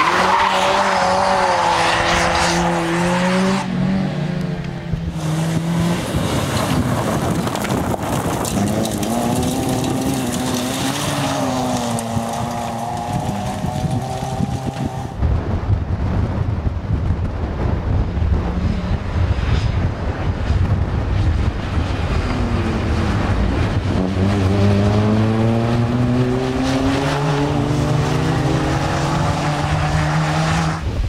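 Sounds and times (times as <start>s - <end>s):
rally car engines revving: 0.0s - 15.2s, 17.2s - 31.0s
wind buffeting microphone: 0.6s - 31.0s.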